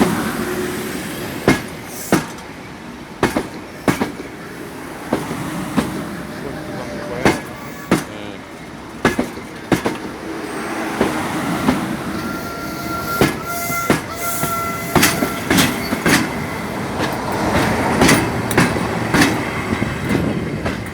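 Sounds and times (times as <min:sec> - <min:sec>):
diesel locomotive running: 0:00.0 - 0:20.9.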